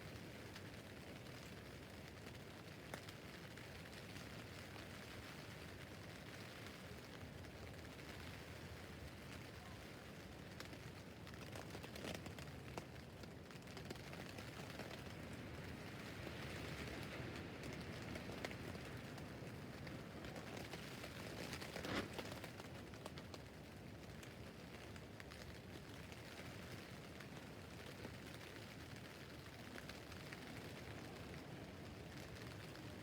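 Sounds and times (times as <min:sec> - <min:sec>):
rain on a tent roof: 0:00.0 - 0:33.0.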